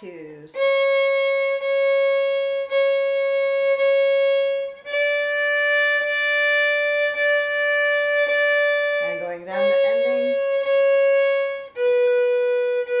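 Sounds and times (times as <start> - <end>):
solo fiddle bowed notes: 0.0 - 13.0.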